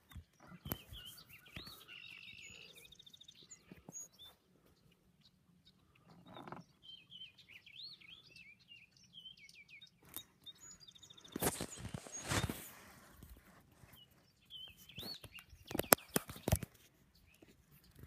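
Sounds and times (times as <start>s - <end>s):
blackbirds calling: 0.0s - 18.0s.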